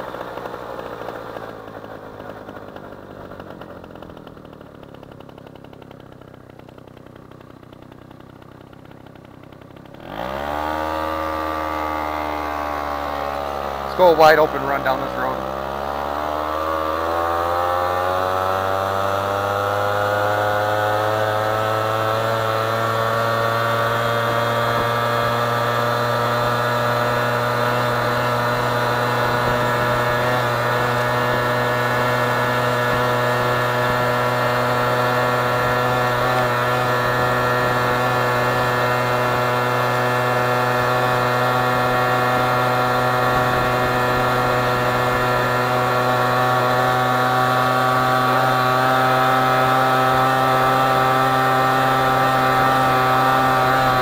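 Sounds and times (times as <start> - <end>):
scooter engine at full throttle: 0.0 - 54.0.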